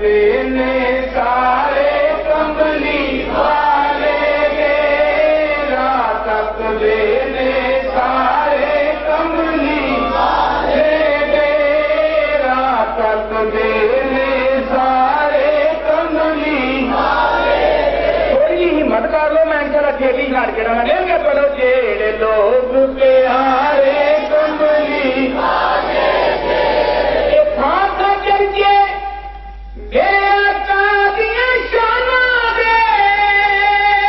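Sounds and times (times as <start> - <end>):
man chanting melodically: 0.0 - 17.0, 18.3 - 25.4, 27.3 - 34.0.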